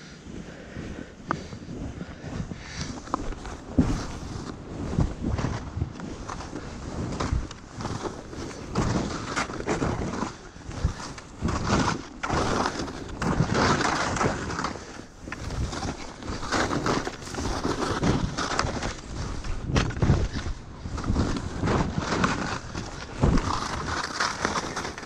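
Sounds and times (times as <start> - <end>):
skis swishing through snow: 0.0 - 25.0.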